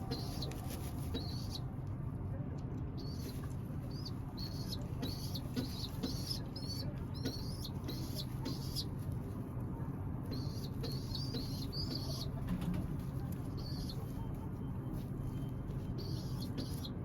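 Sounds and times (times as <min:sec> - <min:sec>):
pigeon squab squeaking: 0:00.0 - 0:01.7, 0:03.0 - 0:09.0, 0:10.3 - 0:17.0
steady low hum: 0:00.0 - 0:17.0.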